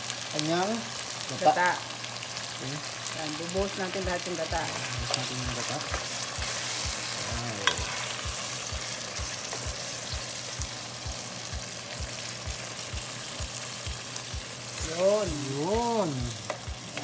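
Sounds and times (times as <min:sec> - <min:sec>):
meat sizzling in fat: 0:00.0 - 0:17.0.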